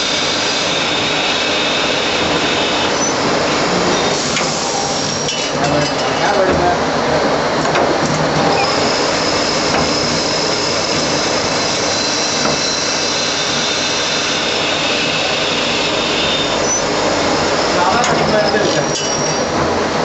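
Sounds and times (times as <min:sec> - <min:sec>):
lathe machine running: 0:00.0 - 0:20.0.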